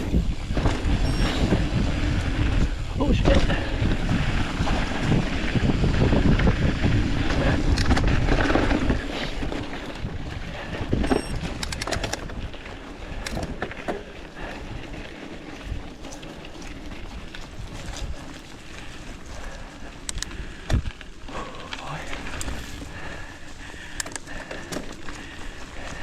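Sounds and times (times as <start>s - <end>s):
bike rattles and clicks: 0.0s - 26.0s
tyres on dirt: 0.0s - 26.0s
wind buffeting microphone: 0.0s - 26.0s.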